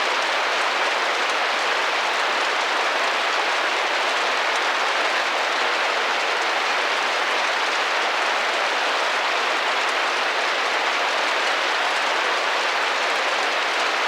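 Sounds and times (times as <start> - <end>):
rain pattering on a window: 0.0 - 14.0.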